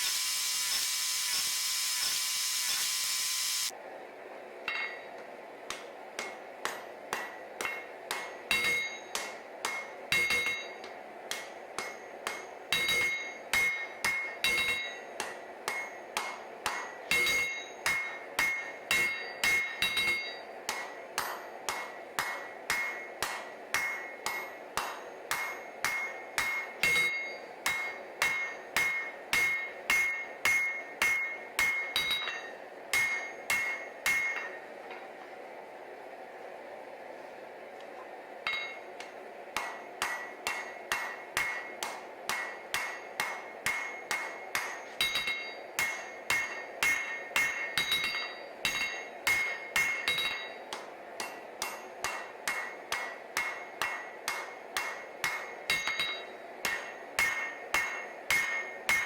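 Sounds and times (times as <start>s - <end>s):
hammer ringing on anvil: 4.7s - 34.8s, 38.4s - 59.0s.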